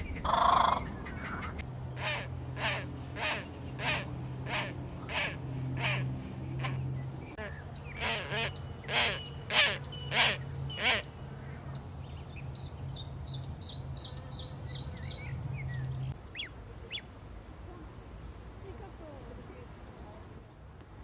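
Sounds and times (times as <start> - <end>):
harsh bird calls: 0.0 - 17.1.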